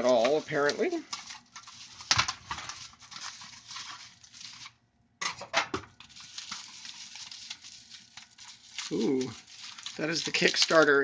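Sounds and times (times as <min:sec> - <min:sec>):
plastic packaging rustling and clicking: 0:00.0 - 0:11.0.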